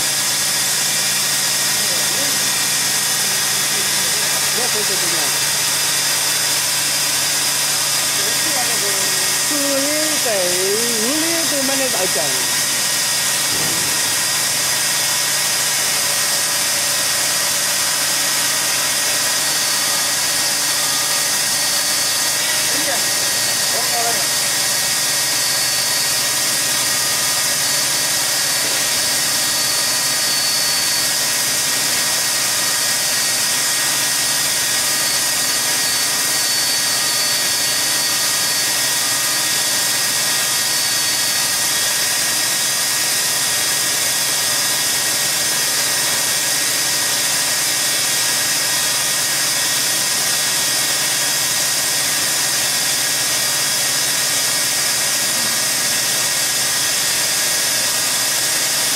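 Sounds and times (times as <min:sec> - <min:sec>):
band saw cutting metal: 0:00.0 - 0:58.9.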